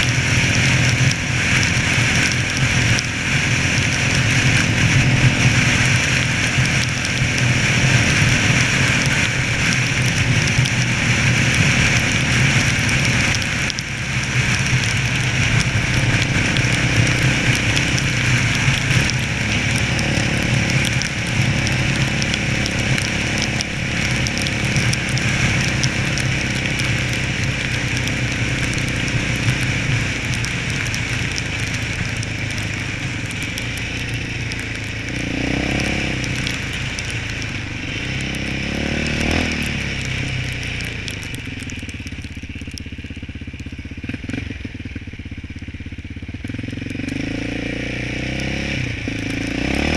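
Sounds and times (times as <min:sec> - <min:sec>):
quad engine running: 0:00.0 - 0:49.9
wind and tyre noise: 0:00.0 - 0:49.9.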